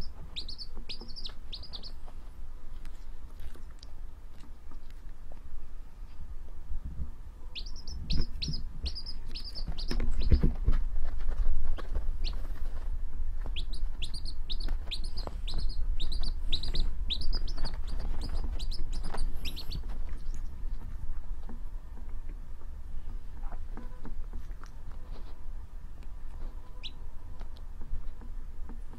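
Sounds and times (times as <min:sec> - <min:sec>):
baby chick peeping: 0:00.0 - 0:05.0, 0:07.0 - 0:25.4, 0:26.0 - 0:28.8.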